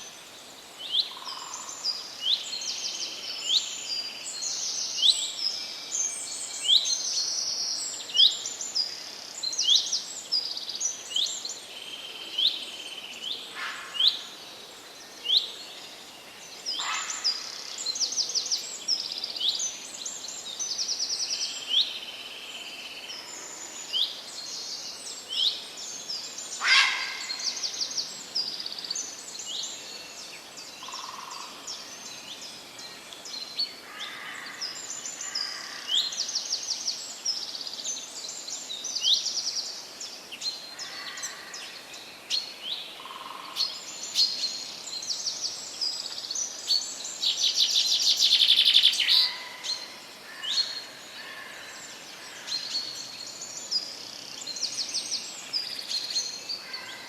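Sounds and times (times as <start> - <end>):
songbirds singing and chirping: 0.0 - 57.0.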